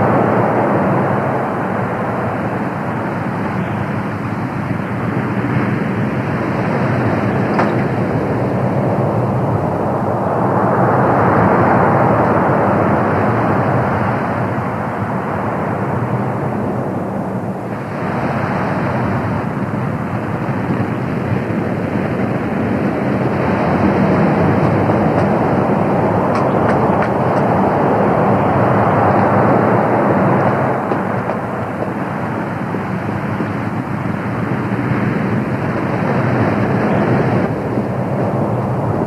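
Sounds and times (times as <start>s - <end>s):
sea: 0.0s - 39.0s
wind: 0.0s - 39.0s.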